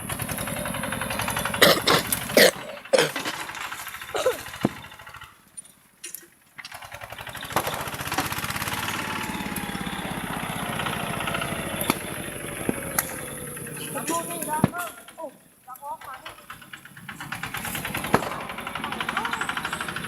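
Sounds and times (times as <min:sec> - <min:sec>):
tractor engine chugging: 0:00.0 - 0:20.0.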